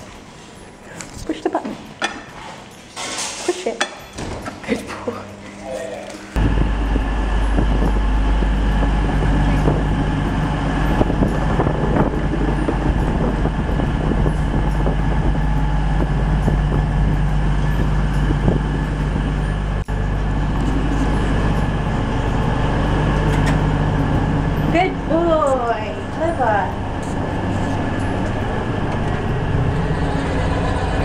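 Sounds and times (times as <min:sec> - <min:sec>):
train engine humming: 0:05.2 - 0:31.0.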